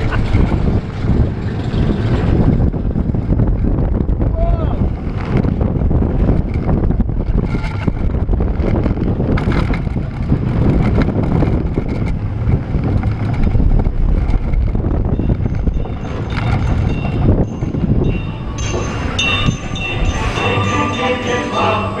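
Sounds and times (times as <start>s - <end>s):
roller coaster rumbling on track: 0.0s - 22.0s
wind buffeting microphone: 0.0s - 22.0s.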